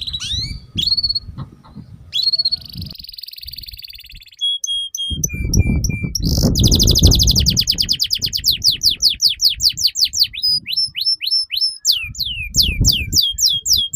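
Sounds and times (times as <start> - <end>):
canary singing: 0.0 - 13.9.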